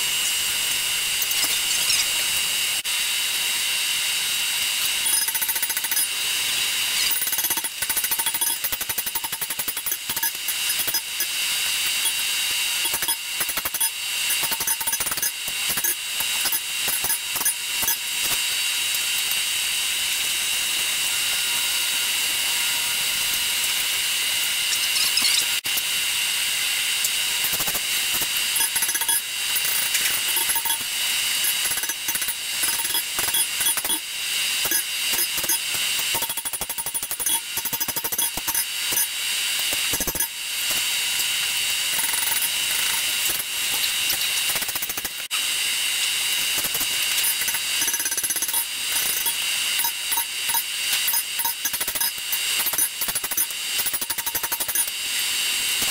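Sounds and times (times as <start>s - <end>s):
steady mechanical whir: 0.0s - 55.9s.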